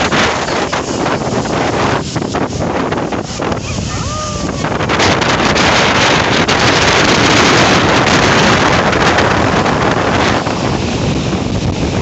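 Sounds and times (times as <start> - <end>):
sea surf: 0.0 - 12.0
wind blasting microphone: 0.0 - 12.0.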